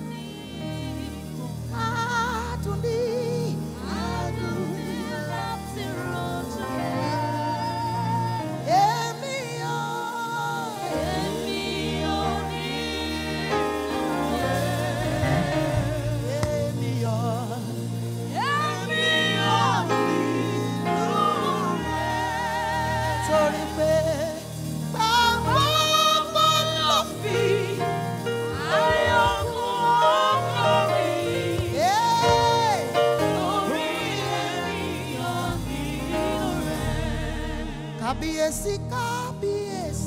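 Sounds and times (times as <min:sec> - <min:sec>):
live accompaniment with held notes: 0:00.0 - 0:40.0
woman singing gospel: 0:00.0 - 0:40.0.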